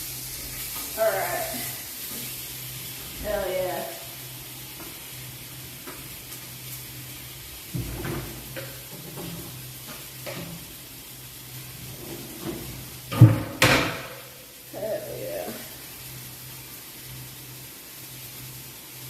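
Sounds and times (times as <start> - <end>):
food sizzling in frying pan: 0.0 - 19.0.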